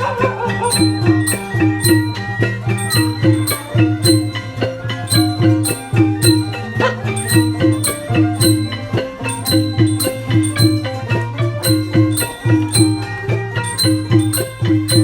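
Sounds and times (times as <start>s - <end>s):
background music with percussion beat: 0.0s - 15.0s.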